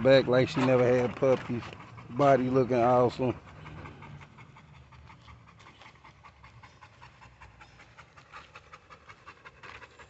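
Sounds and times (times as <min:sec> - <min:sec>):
dog panting fast: 0:00.0 - 0:10.0.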